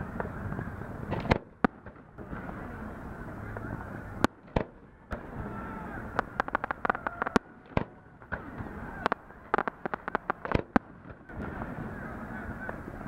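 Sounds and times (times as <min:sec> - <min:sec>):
fireworks bangs and pops: 0:01.0 - 0:13.0.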